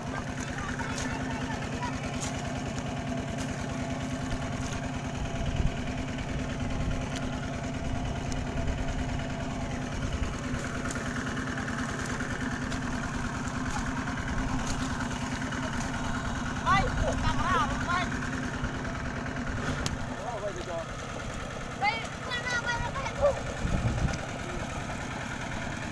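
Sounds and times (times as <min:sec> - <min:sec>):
small engine running: 0:00.0 - 0:25.9.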